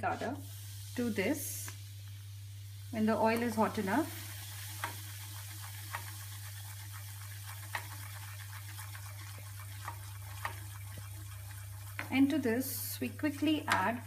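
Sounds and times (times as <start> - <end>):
flour sizzling in oil: 0.0 - 14.0.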